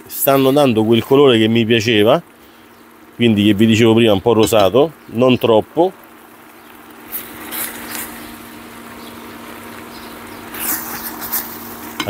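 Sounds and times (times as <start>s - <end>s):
risotto sizzling and bubbling: 0.0s - 12.0s.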